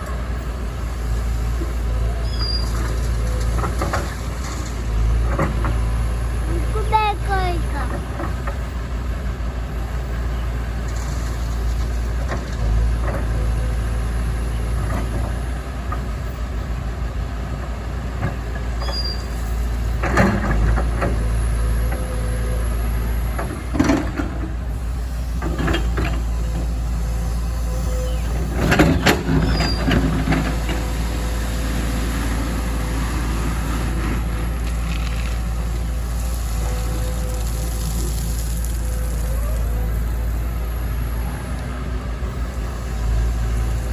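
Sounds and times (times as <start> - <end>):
excavator clanks and rattles: 0.0 - 43.9
excavator diesel engine running: 0.0 - 43.9.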